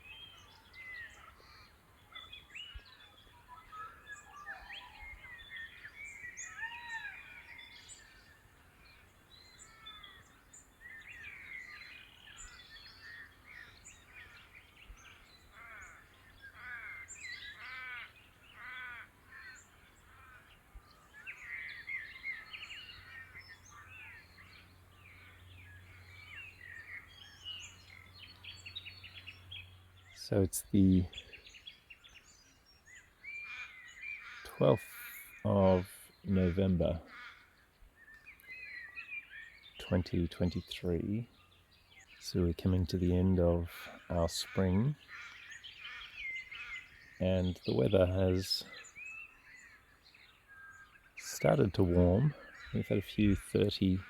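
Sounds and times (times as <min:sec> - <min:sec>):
birds calling and singing: 0:00.0 - 0:54.0.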